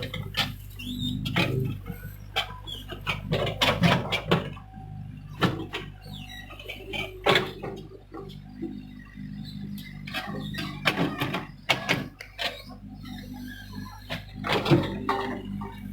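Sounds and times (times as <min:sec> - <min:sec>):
diesel engine humming: 0:00.0 - 0:15.9.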